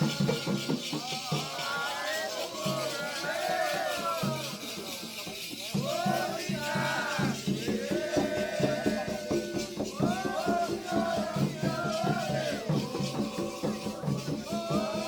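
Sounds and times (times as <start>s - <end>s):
drum rhythm: 0.0s - 15.0s
shaken rattle: 0.0s - 15.0s
voices singing: 0.0s - 15.0s.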